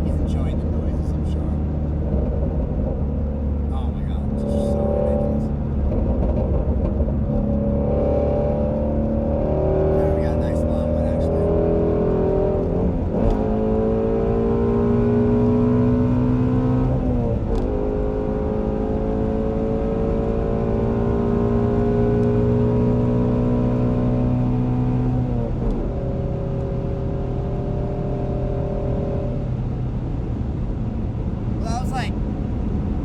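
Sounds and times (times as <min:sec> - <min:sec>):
car engine revving through gears: 0:00.0 - 0:30.4.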